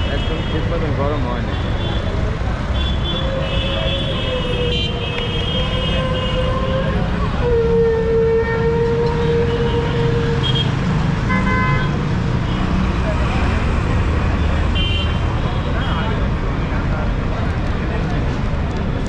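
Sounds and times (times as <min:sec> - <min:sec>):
road traffic rumbling: 0:00.0 - 0:19.0.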